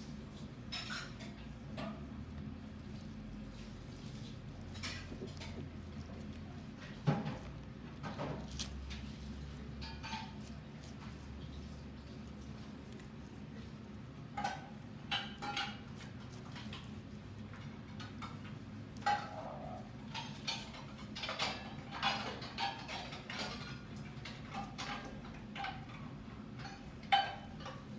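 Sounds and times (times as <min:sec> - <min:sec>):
plastic leaves clicking and rustling: 0:00.2 - 0:27.9.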